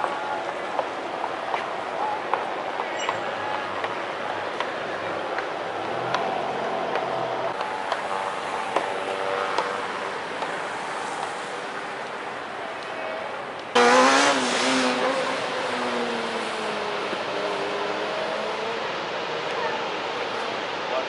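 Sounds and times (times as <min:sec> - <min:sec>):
car traffic passing: 0:00.0 - 0:21.0.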